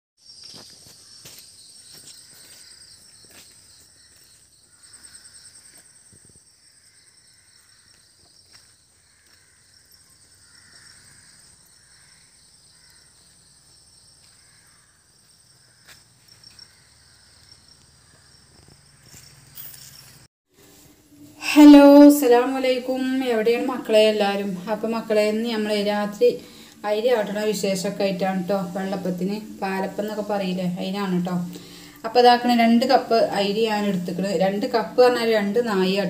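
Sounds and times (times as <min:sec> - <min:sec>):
insects trilling: 0:00.2 - 0:20.3, 0:21.6 - 0:36.0.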